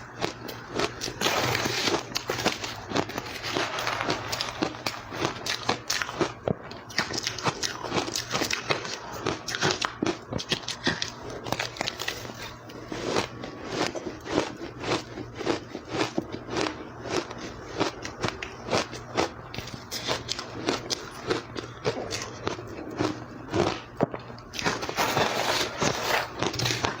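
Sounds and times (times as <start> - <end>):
ice being chewed: 0.0 - 27.0.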